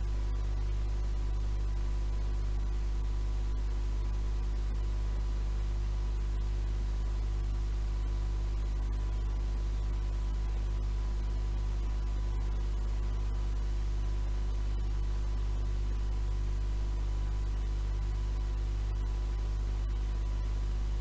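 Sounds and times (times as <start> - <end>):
low electrical hum: 0.0 - 21.0
tape hiss: 0.0 - 21.0.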